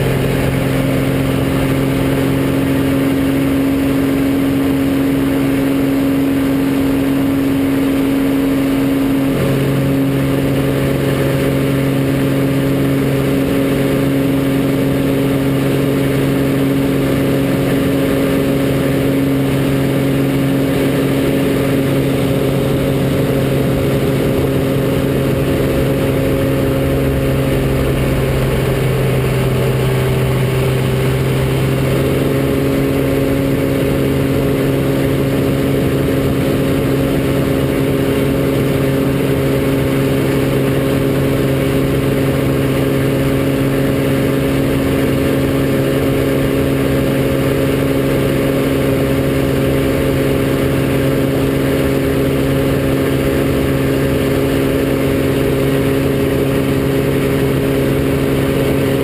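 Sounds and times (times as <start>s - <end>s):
airplane engine and propeller: 0.0s - 59.0s.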